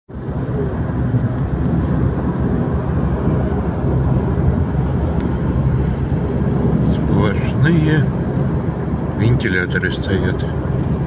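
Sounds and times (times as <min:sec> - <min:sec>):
road and engine rumble: 0:00.1 - 0:11.0.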